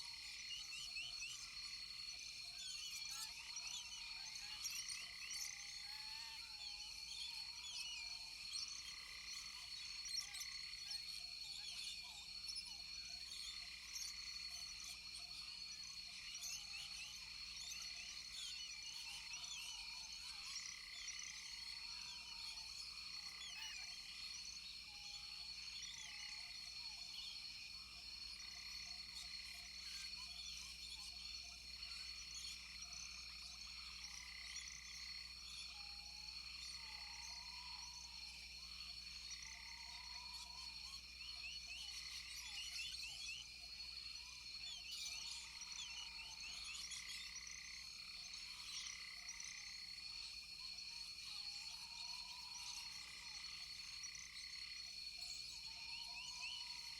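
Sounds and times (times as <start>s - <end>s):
frogs chirping: 0.0s - 56.9s.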